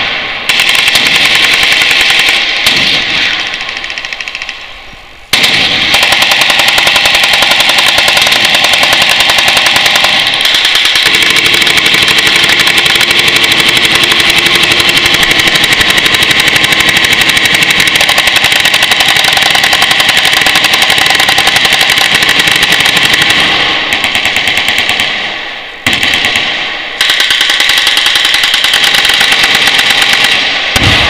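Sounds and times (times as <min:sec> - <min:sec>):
machine guns firing: 0:00.0 - 0:04.6, 0:05.3 - 0:31.0.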